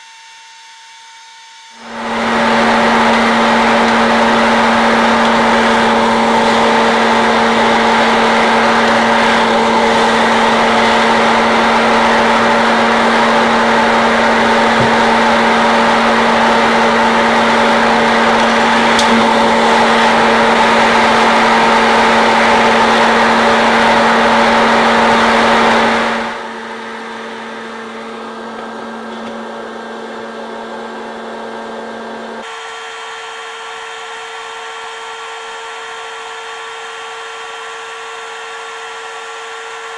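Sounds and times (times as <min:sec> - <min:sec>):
fan motor hum and whoosh: 0:01.8 - 0:39.6.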